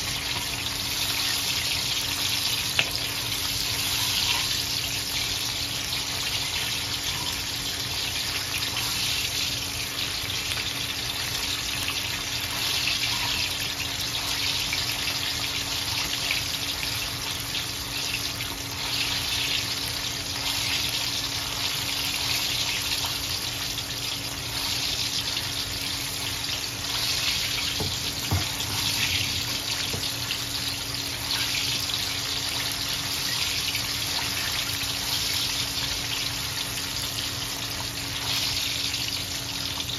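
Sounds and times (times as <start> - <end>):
wings sizzling in hot oil: 0.0 - 39.9.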